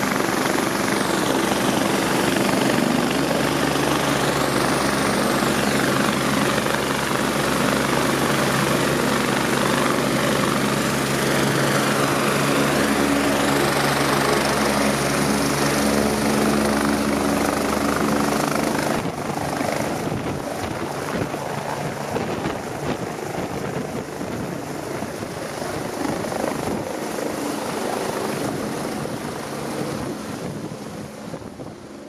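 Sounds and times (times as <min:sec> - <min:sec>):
helicopter rotor and turbine: 0:00.0 - 0:32.0.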